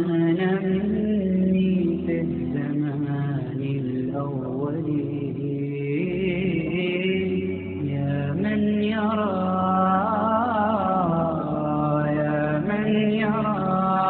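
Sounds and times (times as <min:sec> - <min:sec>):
low vocal hum: 0:00.0 - 0:14.0
man chanting: 0:00.0 - 0:14.0.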